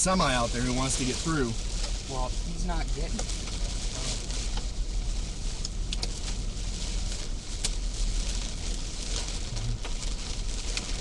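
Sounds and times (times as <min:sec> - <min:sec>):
hailstones ticking: 0:00.0 - 0:11.0
heavy rain pouring: 0:00.0 - 0:11.0
wind rumble: 0:00.0 - 0:11.0.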